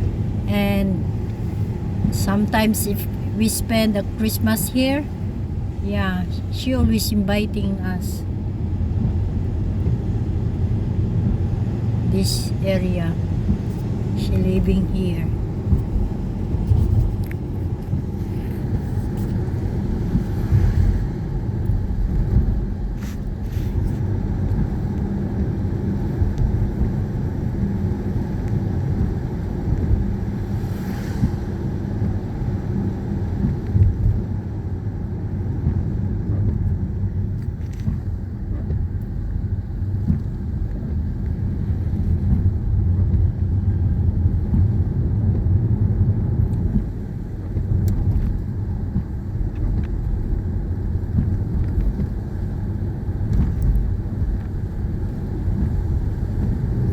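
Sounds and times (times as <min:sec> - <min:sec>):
car engine and tyre noise: 0:00.0 - 0:56.9.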